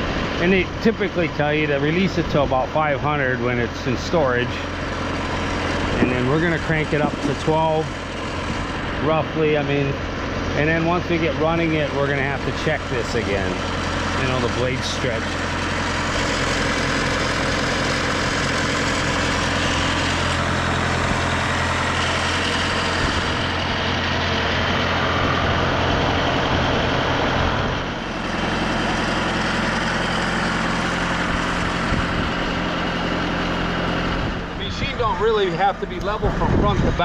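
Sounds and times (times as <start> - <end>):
sawmill engine idling: 0.0 - 37.0.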